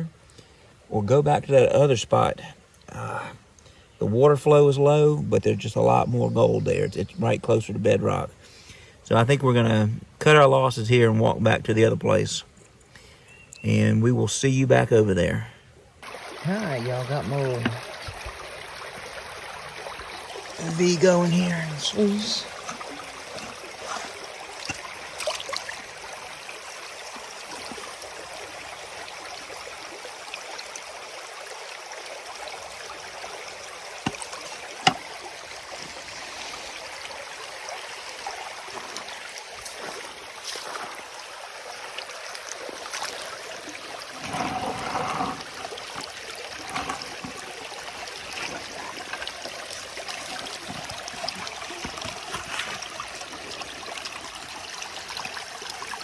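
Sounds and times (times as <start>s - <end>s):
creek water running through sluice box: 0.0s - 56.0s.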